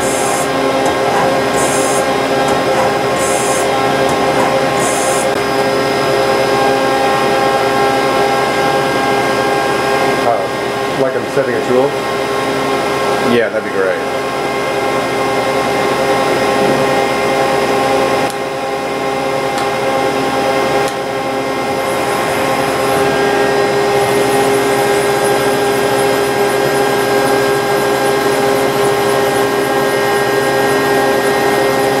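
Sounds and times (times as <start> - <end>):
lathe machine humming: 0.0 - 32.0.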